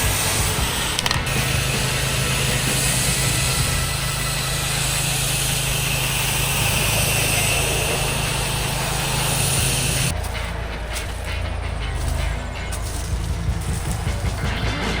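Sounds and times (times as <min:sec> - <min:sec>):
pressure washer engine running: 0:00.0 - 0:15.0
water spray hissing: 0:00.0 - 0:15.0.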